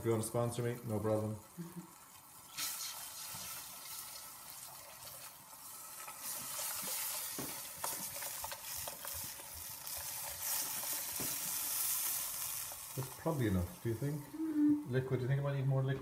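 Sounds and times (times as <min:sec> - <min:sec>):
liquid sizzling in hot pot: 0:00.0 - 0:14.5.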